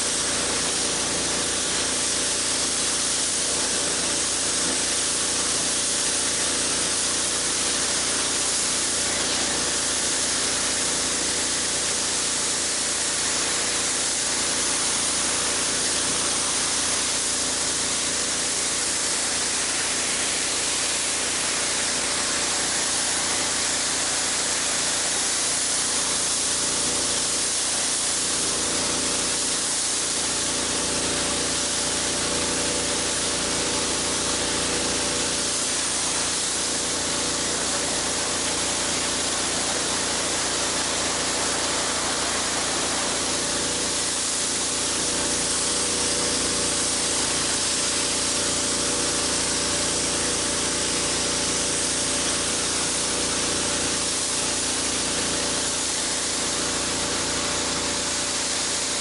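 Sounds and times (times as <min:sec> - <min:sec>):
pressure washer motor drone: 0:00.0 - 0:59.0
water jets hissing on concrete: 0:00.0 - 0:59.0.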